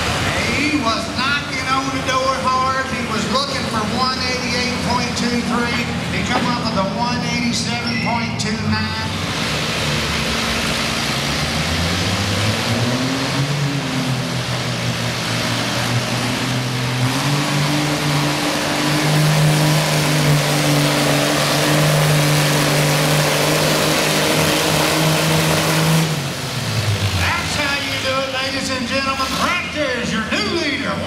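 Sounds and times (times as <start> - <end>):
tractor engine revving under load: 0.0 - 30.3.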